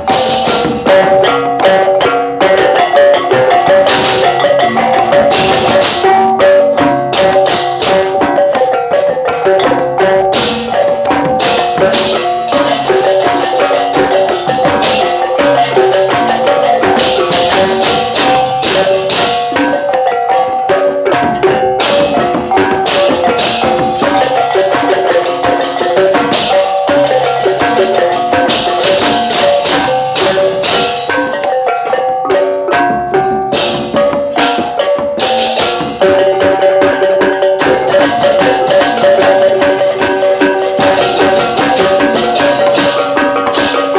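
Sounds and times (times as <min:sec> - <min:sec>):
gamelan ensemble playing: 0:00.0 - 0:43.9.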